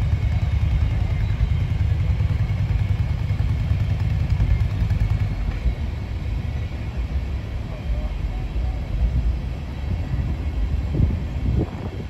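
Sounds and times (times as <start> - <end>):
freight train rolling past: 0.0 - 12.0
motorcycles idling: 0.0 - 12.0.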